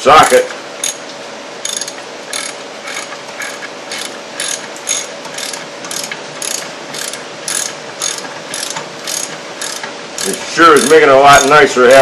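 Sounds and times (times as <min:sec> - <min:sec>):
ratchet wrench clicking: 0:00.2 - 0:01.0, 0:01.6 - 0:11.6.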